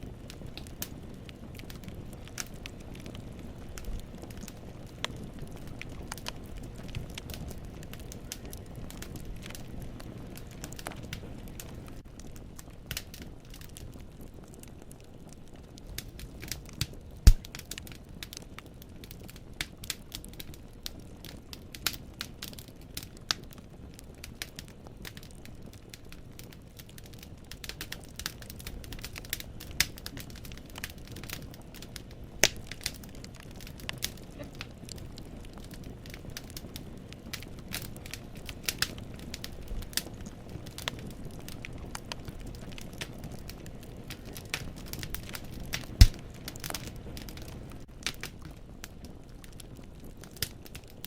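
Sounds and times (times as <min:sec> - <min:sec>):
logs crackling and popping: 0:00.0 - 0:51.0
low rumble of flames: 0:00.0 - 0:51.0.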